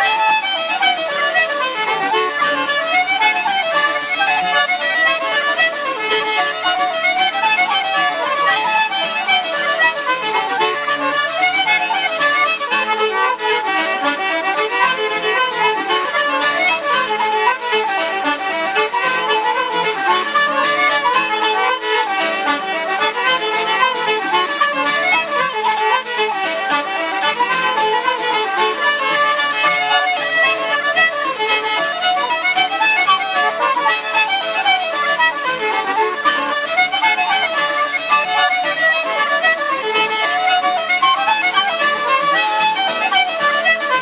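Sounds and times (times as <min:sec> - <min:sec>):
fiddle: 0:00.0 - 0:44.0
folk band playing dance tune: 0:00.0 - 0:44.0.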